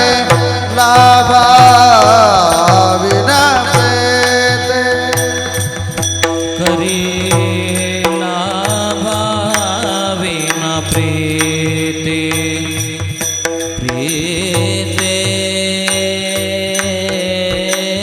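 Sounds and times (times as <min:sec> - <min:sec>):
held instrumental tones: 0:00.0 - 0:17.3
devotional singing: 0:00.0 - 0:18.0
percussion strokes: 0:00.0 - 0:18.0.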